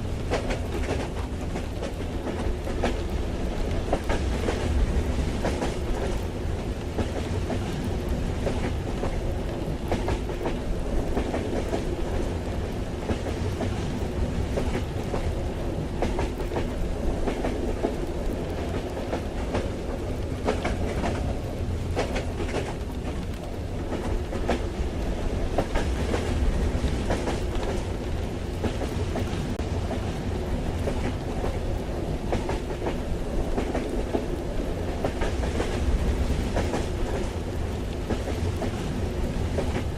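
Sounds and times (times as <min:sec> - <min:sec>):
rain against carriage: 0:00.0 - 0:39.9
train rumble: 0:00.0 - 0:39.9.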